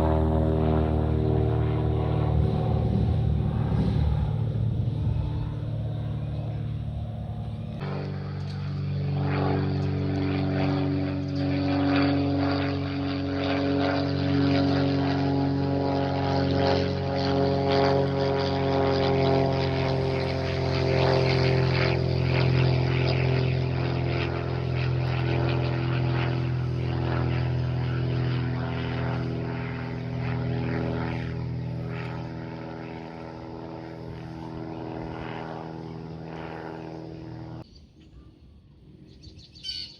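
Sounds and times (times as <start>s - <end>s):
propeller airplane flying past: 0.0s - 39.9s.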